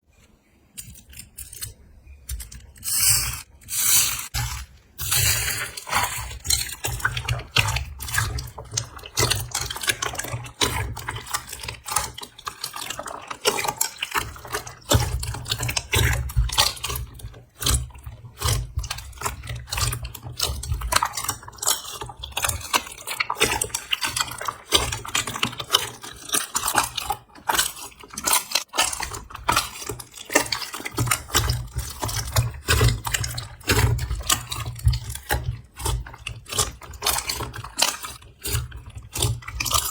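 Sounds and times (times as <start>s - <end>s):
slime squelching and popping: 0.8s - 39.9s.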